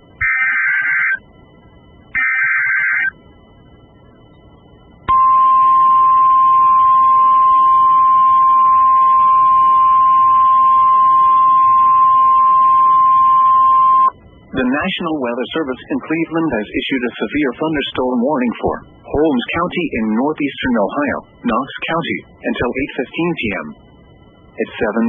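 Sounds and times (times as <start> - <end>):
steady warning alarm tone: 0.0 - 25.0
screeching digital data bursts: 0.2 - 1.2, 2.1 - 3.2, 5.2 - 25.0.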